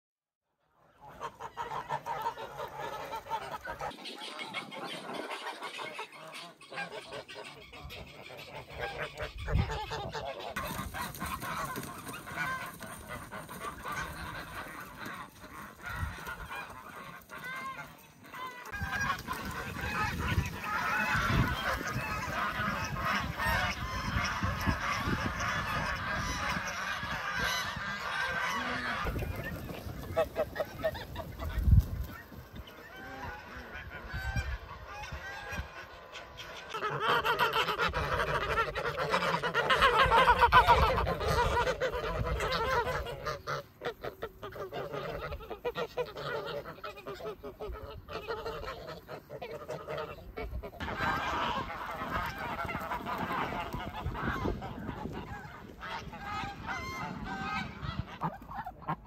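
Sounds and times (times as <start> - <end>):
geese honking: 0.8 - 59.0.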